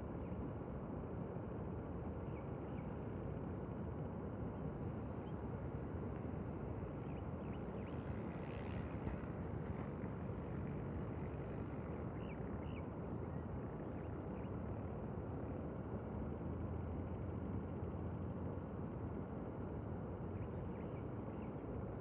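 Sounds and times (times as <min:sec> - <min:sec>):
low outdoor rush: 0:00.0 - 0:22.0.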